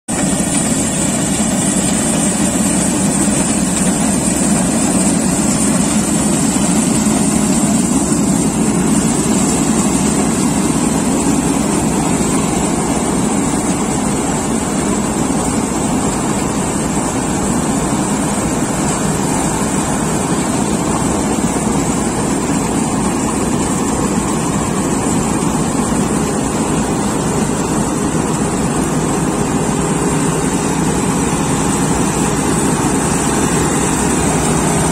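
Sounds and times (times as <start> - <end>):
combine harvester running: 0.1 - 34.9.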